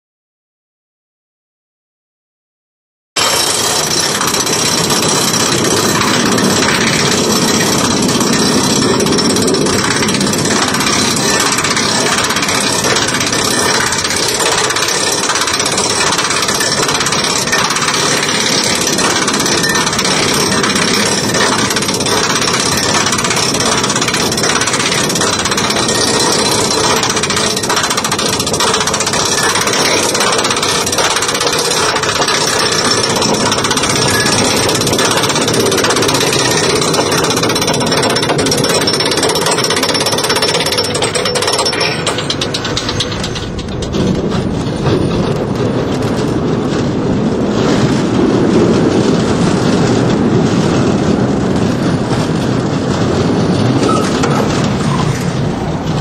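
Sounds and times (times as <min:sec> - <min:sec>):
roller coaster lift chain clanking: 0:03.2 - 0:56.0.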